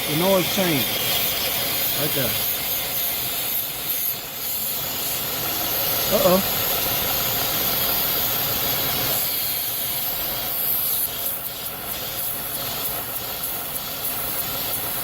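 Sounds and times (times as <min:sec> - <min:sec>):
air hissing through hose: 0:00.0 - 0:15.0.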